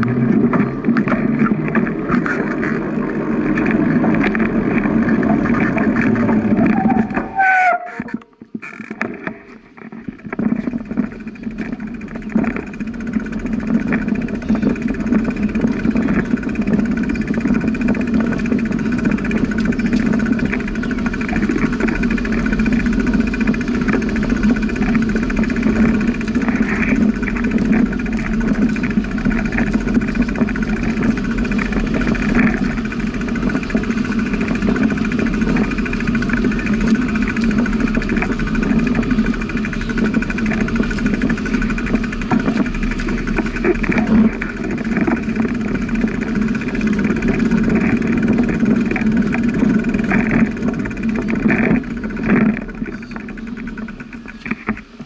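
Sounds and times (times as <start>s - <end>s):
bicycle rolling noise: 0.0s - 55.0s
wind noise: 0.0s - 55.0s.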